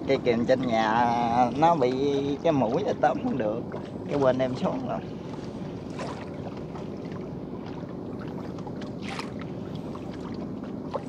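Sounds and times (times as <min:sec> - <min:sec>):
boat engine low rumble: 0:00.0 - 0:11.0
faint knocks or splashes: 0:00.5 - 0:11.0.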